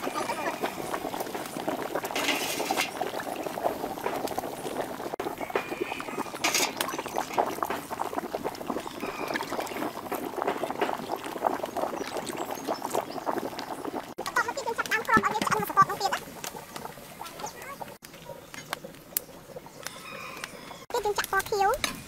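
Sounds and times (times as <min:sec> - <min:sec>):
water boiling and bubbling: 0:00.0 - 0:22.0.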